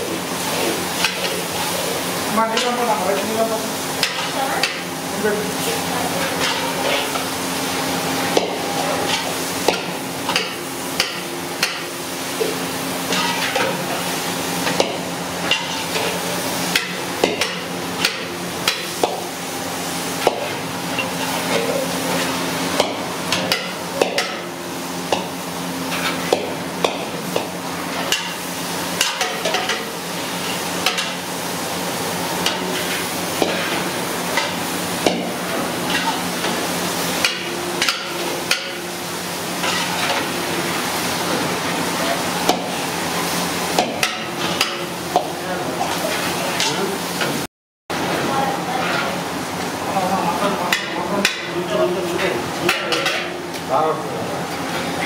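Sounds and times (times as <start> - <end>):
meat sizzling: 0.0 - 45.1.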